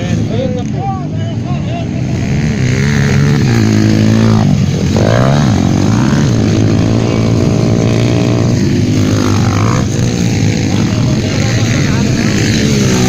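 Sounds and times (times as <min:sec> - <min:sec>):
motocross bikes revving past: 0:00.0 - 0:13.0.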